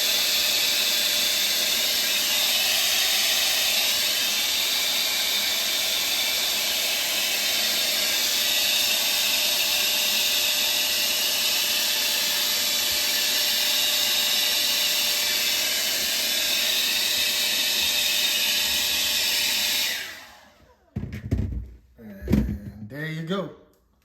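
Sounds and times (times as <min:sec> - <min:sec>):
hair dryer blowing: 0:00.0 - 0:21.5.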